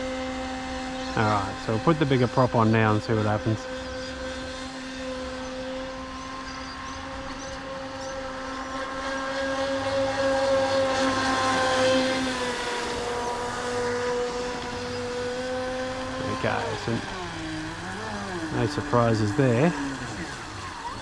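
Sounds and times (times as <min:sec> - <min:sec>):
model boat motor whining: 0:00.0 - 0:21.0.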